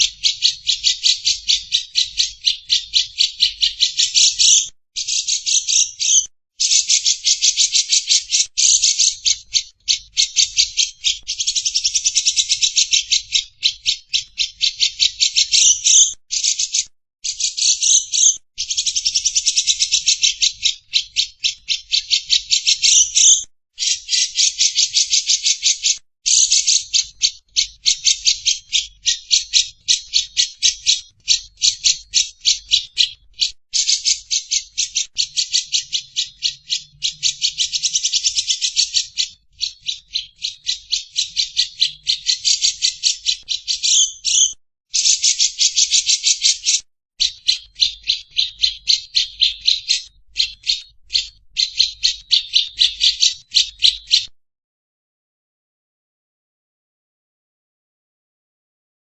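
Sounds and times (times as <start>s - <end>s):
lovebird chattering: 0.0s - 54.3s.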